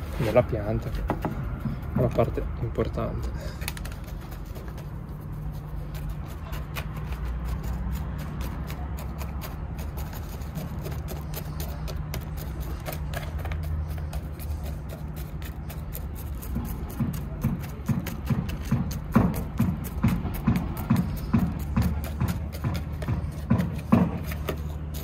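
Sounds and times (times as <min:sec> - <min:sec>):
gritty soil clicks and scraping: 0:00.0 - 0:25.0.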